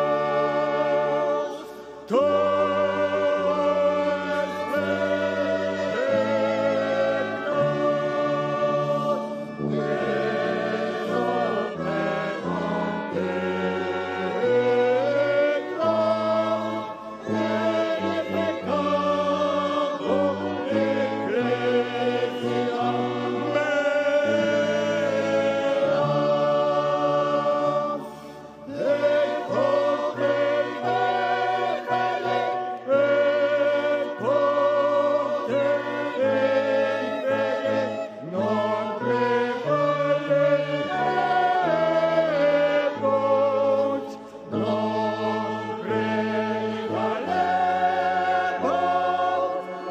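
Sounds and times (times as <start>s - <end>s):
choir singing liturgical music: 0.0s - 49.9s.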